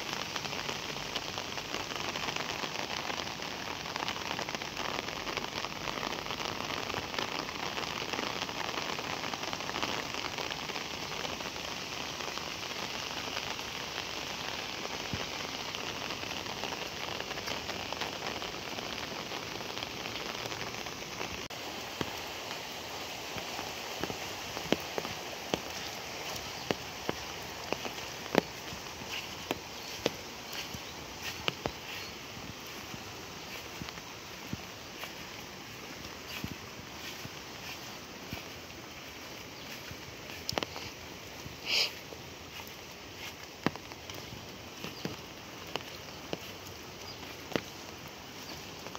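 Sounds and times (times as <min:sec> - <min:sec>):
heavy rain on water: 0:00.0 - 0:48.9.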